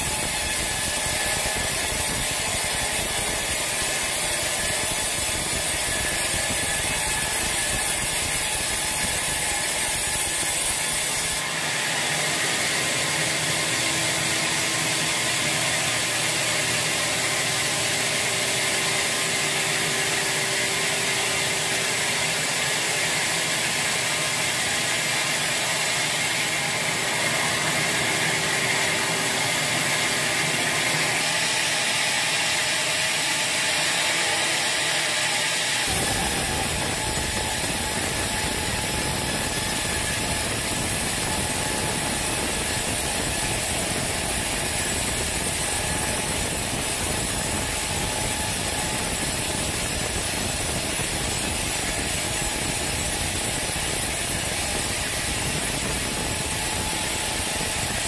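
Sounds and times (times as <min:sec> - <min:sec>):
band saw cutting log: 0:00.0 - 0:58.0.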